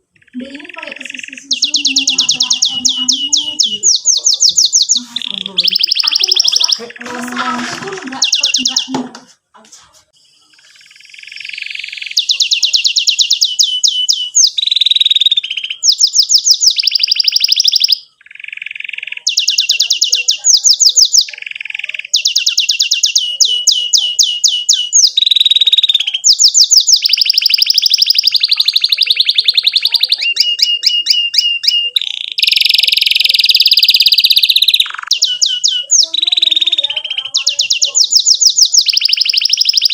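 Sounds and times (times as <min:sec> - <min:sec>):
canary singing trills: 0:00.0 - 0:09.3, 0:10.1 - 0:39.9.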